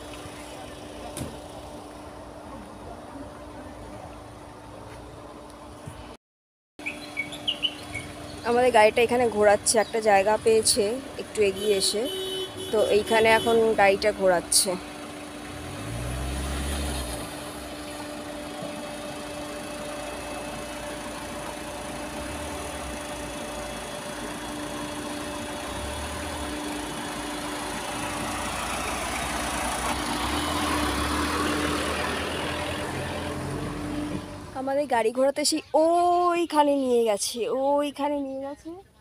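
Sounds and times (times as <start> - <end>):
van diesel engine running: 0.0 - 6.2, 6.8 - 38.7.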